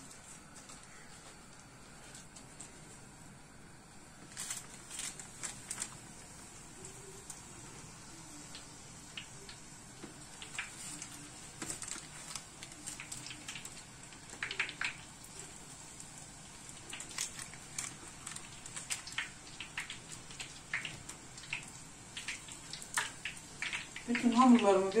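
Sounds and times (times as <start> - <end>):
dough frying in oil: 0.0 - 25.0
crackles and pops: 4.1 - 25.0.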